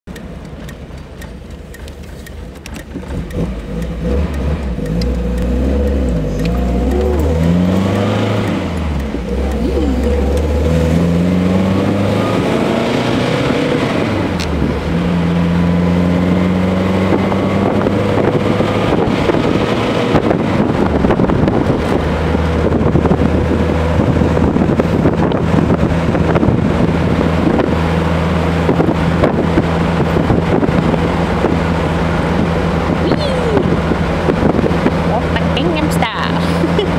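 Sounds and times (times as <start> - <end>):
race car engine revving: 2.8 - 36.9.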